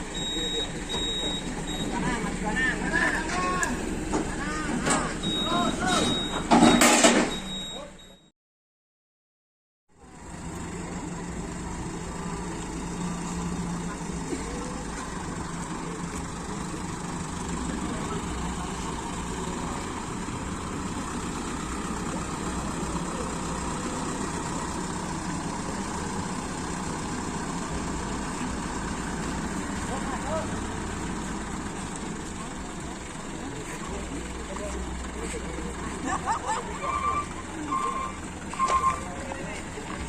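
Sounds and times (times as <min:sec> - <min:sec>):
truck engine idling: 0:00.0 - 0:06.8, 0:10.0 - 0:40.0.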